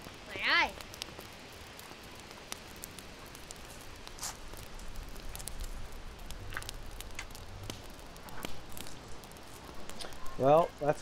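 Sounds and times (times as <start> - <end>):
campfire crackling: 0.0 - 11.0
sharp pops of fire: 0.0 - 11.0.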